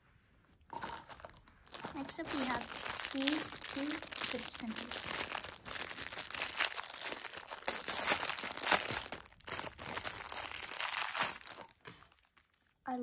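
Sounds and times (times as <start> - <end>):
plastic packaging crinkling: 0.7 - 12.8.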